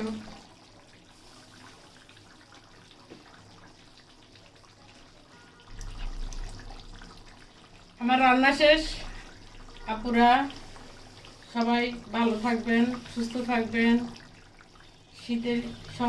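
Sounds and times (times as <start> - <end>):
pot bubbling faintly: 0.0 - 16.0.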